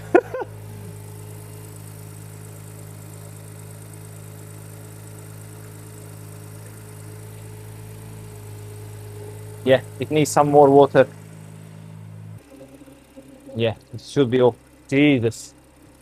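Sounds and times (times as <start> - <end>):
car engine idling: 0.0 - 16.0
electric radiator fan running: 0.0 - 16.0.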